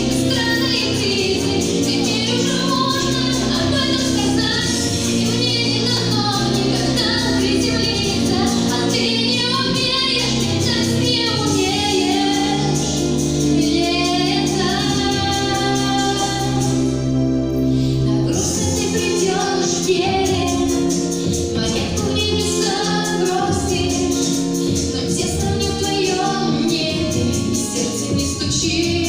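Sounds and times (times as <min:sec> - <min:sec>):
woman singing: 0:00.0 - 0:16.8, 0:18.1 - 0:29.0
instrumental accompaniment: 0:00.0 - 0:29.0.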